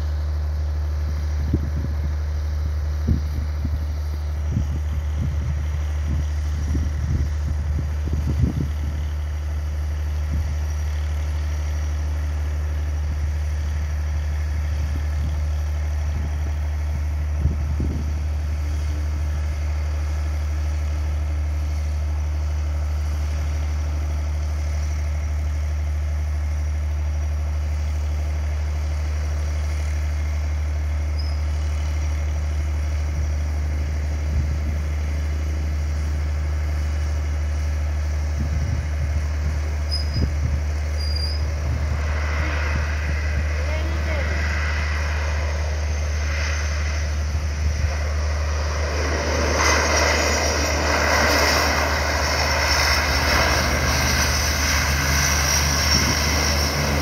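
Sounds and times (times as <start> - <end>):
low engine-like hum: 0.0 - 57.0.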